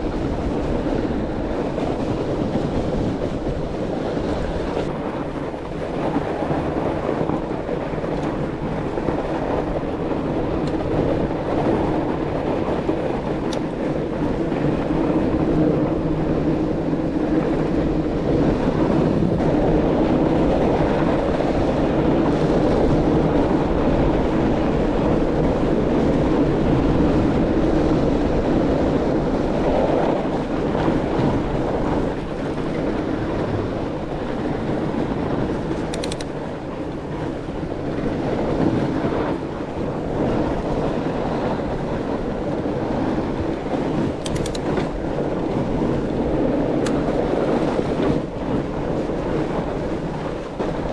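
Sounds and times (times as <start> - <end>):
bike tyres rolling on snow: 0.0 - 50.9.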